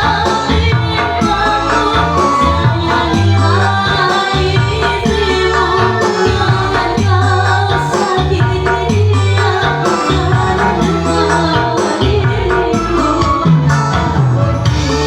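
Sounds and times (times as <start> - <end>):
band playing a song: 0.0 - 15.0
heavy bass line: 0.0 - 15.0
person singing: 0.0 - 15.0.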